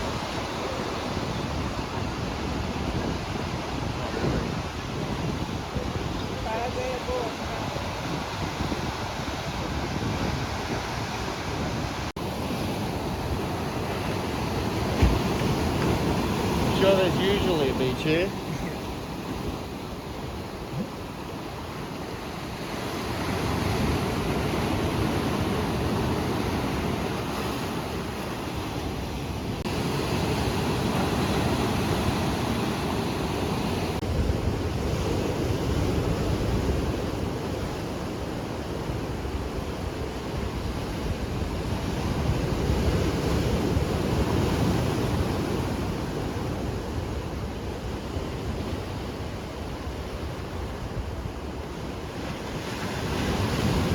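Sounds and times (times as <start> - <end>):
wind buffeting microphone: 0.0 - 52.2
ocean surf breaking: 0.0 - 53.9.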